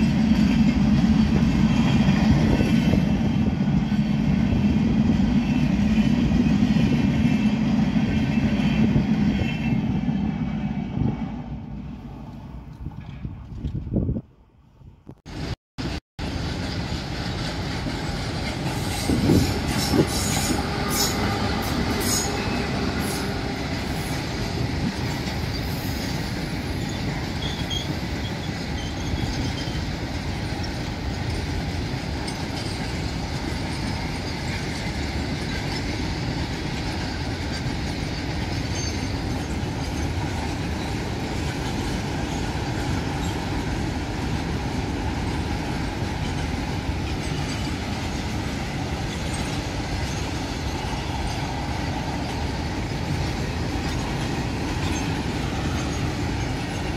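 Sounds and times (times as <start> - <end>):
train rumbling on rails: 0.0 - 56.9.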